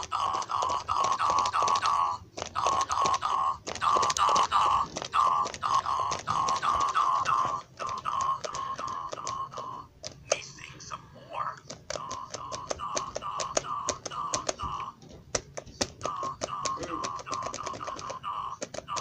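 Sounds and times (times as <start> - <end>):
toy chomping sound effects: 0.0 - 19.0.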